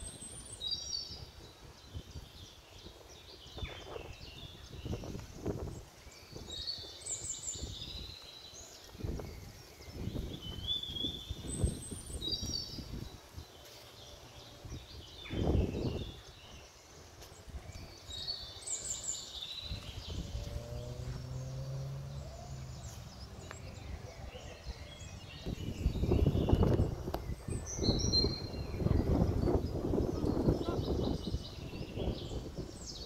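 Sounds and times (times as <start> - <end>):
birds chirping: 0.0 - 33.0
wind gusting on microphone: 0.0 - 33.0.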